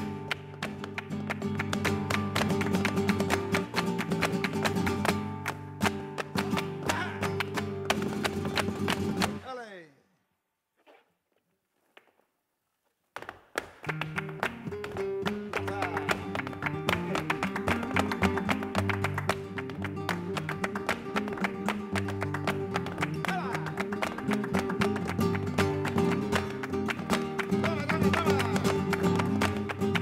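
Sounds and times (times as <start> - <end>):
hand clapping: 0.0 - 9.4, 13.1 - 30.0
flamenco guitar: 0.0 - 9.5, 13.3 - 30.0.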